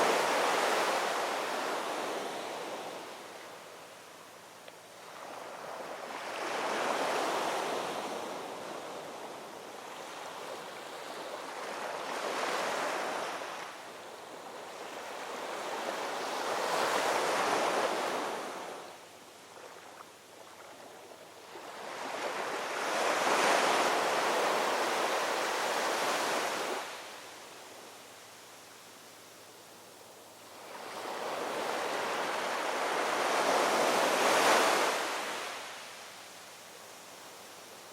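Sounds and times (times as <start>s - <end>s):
ocean waves breaking on shore: 0.0s - 3.6s, 5.0s - 27.4s, 30.5s - 36.4s.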